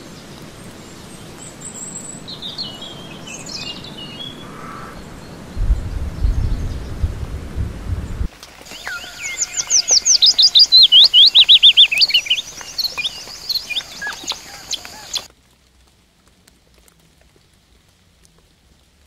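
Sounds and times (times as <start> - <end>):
songbird singing: 0.0 - 15.3.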